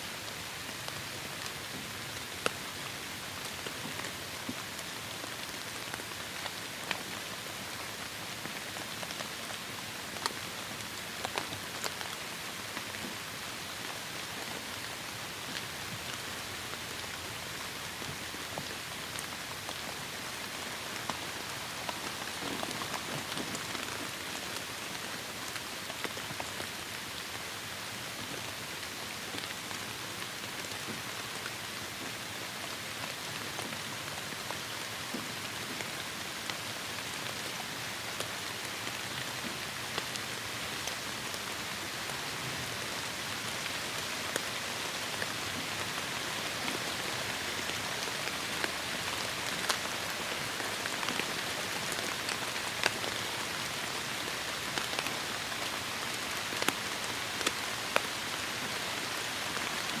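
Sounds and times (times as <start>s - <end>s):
raindrops ticking on a surface: 0.3s - 60.0s.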